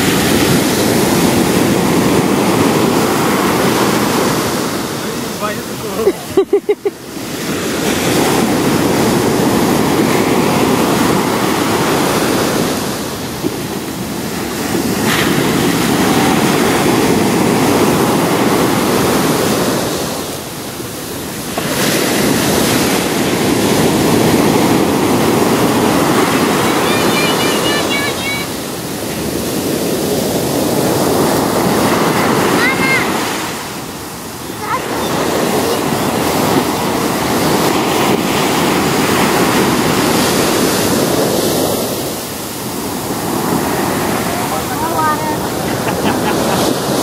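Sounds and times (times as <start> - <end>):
ocean surf breaking on beach: 0.0 - 47.0.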